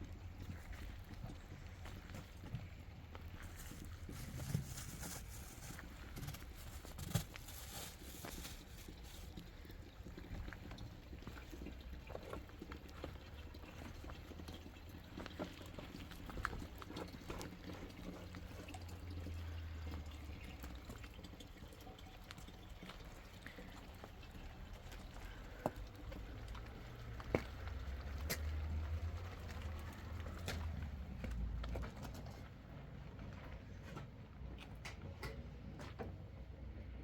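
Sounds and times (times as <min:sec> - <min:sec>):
water trickling and dripping: 0:00.0 - 0:32.8.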